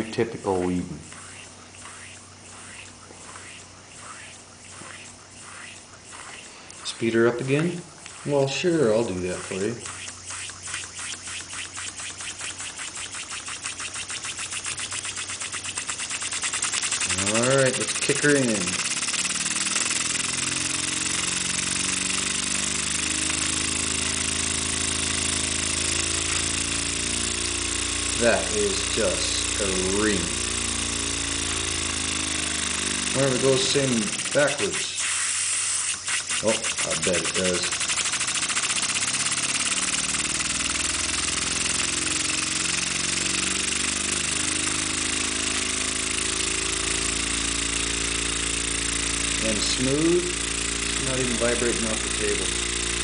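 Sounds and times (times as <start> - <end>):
toy steam engine buzzing: 0.0 - 53.0
steam hissing: 1.0 - 53.0.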